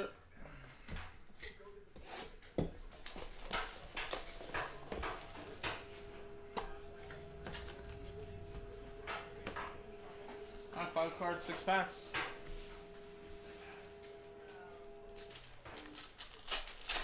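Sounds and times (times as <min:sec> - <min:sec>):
faint steady hum: 0:02.9 - 0:17.0.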